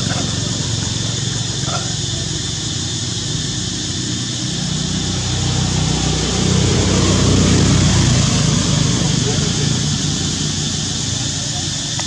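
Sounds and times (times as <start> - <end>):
steady high hiss: 0.0 - 12.0
vehicle engine running: 0.0 - 12.0.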